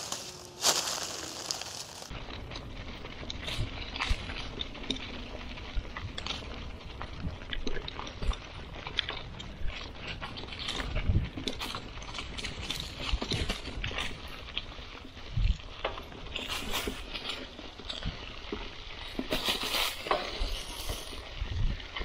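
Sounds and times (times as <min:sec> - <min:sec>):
bike rattling over bumps: 0:00.0 - 0:22.0
tyres crackling through dry leaves: 0:00.0 - 0:22.0.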